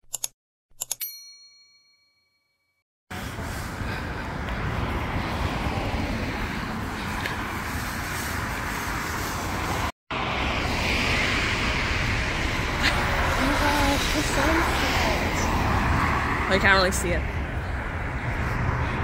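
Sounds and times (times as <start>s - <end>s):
traffic rush: 3.1s - 19.0s.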